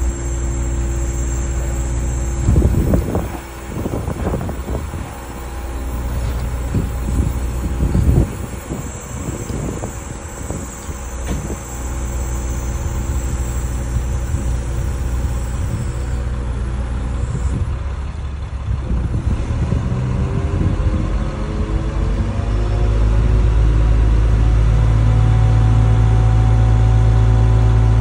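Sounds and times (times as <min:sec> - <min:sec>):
diesel engine revving: 0:00.0 - 0:28.0.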